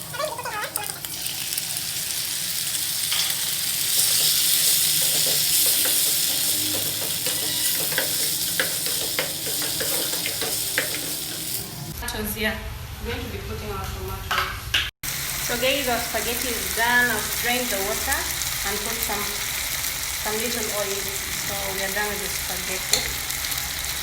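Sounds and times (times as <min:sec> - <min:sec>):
food sizzling in a pan: 0:00.0 - 0:12.0, 0:15.0 - 0:24.0.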